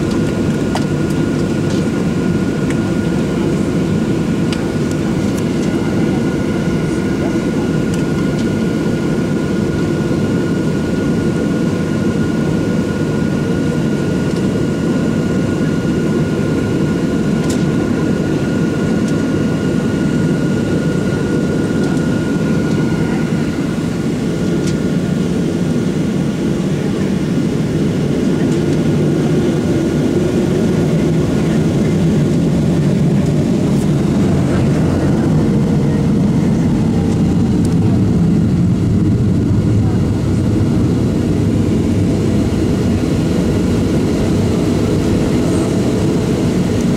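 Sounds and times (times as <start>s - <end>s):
aircraft cabin low rumble: 0.0s - 46.9s
thin jet engine whine: 0.0s - 46.9s.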